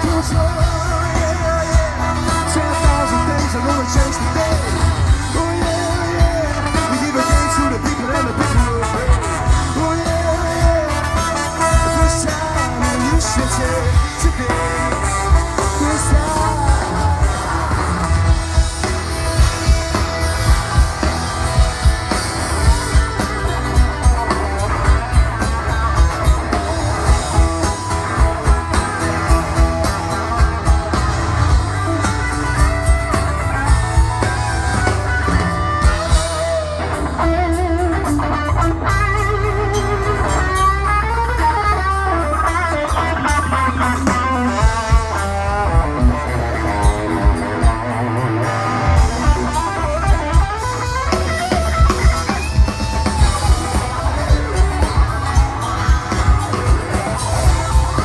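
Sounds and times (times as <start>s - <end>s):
steady drum beat: 0.0s - 41.2s, 42.4s - 58.0s
bass: 0.0s - 58.0s
electric lead guitar: 0.0s - 58.0s.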